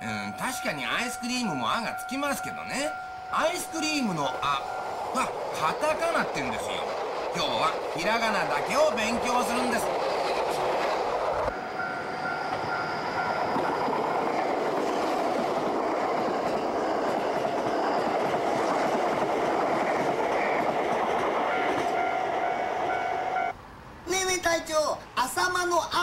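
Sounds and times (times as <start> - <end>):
train wheels on rails: 0.0 - 23.6.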